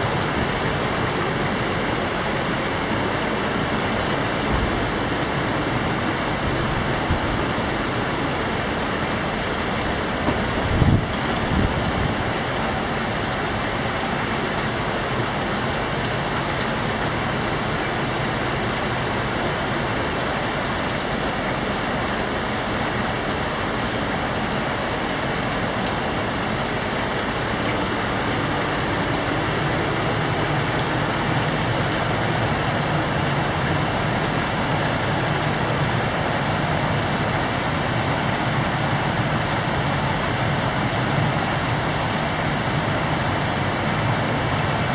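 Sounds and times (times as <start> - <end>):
river rushing over rocks: 0.0 - 44.9.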